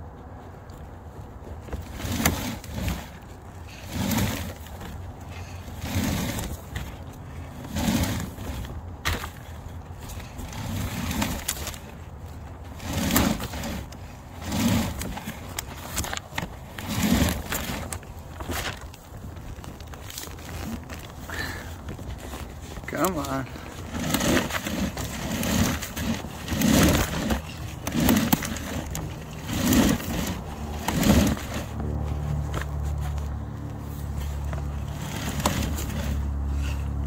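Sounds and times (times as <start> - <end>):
cable scraping and rustling: 0.0 - 37.0.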